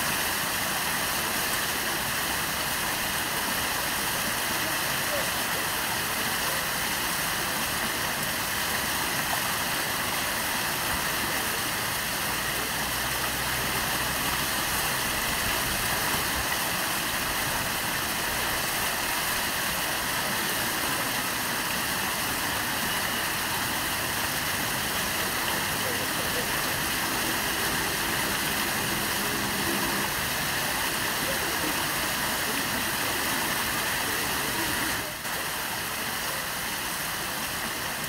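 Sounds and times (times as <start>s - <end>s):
waterfall splashing into pool: 0.0s - 38.0s.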